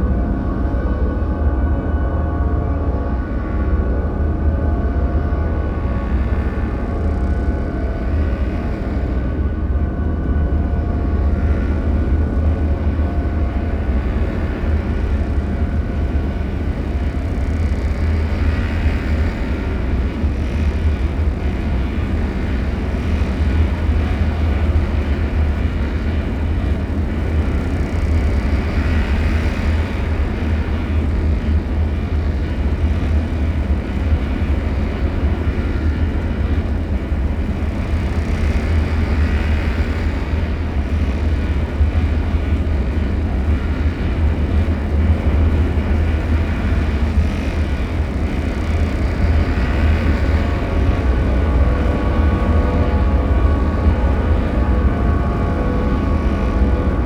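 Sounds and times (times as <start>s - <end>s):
deep low rumble drone: 0.0s - 57.0s.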